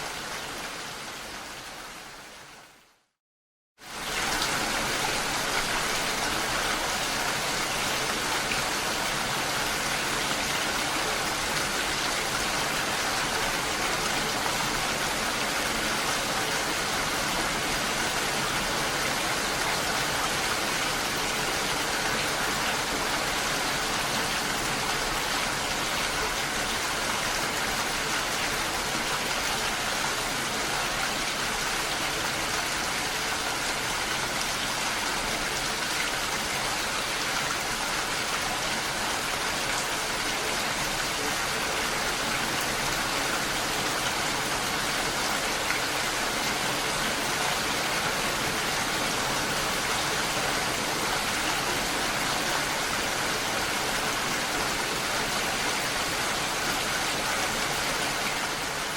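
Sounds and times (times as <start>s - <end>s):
steady rainfall: 0.0s - 3.1s, 3.8s - 58.9s.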